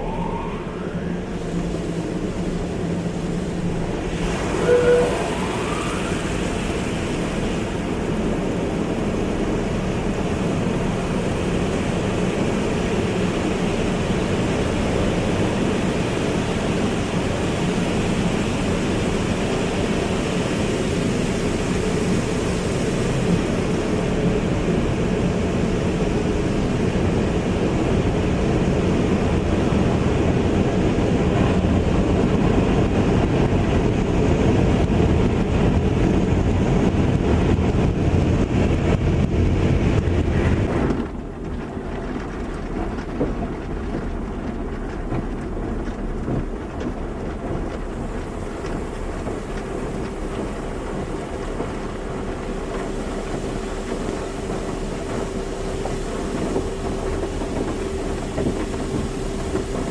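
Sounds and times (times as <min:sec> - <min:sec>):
car wash water spray and machinery: 0:00.0 - 0:59.9.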